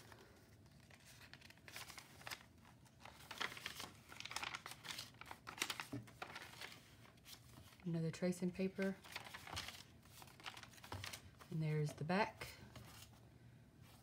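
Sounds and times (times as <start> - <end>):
paper pages rustling: 0.0 - 7.9, 8.6 - 13.2.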